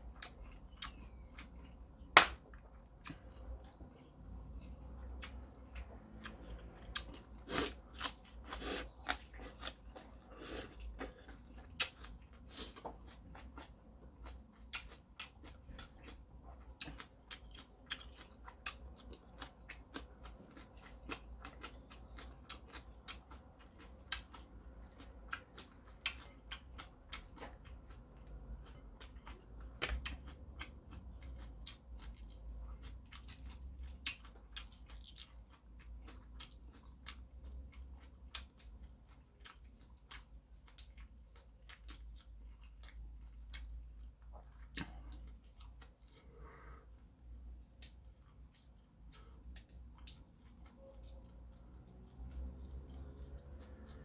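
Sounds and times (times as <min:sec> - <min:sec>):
man chewing noodles: 0:00.0 - 0:54.0.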